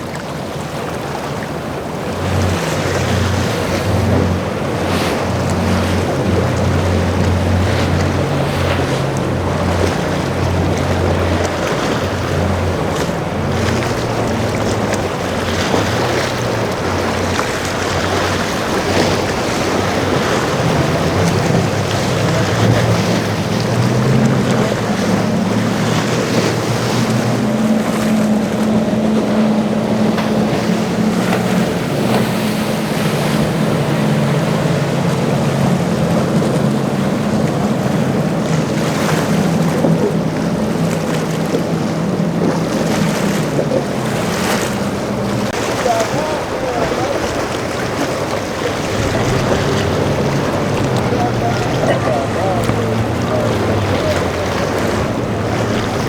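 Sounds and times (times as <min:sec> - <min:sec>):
motorboat engines droning: 0:00.0 - 0:56.0
surf and waves: 0:00.0 - 0:56.0
wind buffeting microphone: 0:00.0 - 0:56.0.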